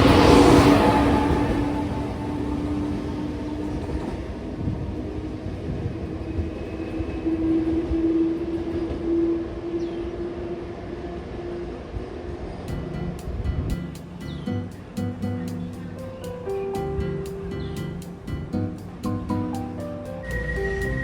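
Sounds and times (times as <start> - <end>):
electric train running on rails: 0.0 - 21.0.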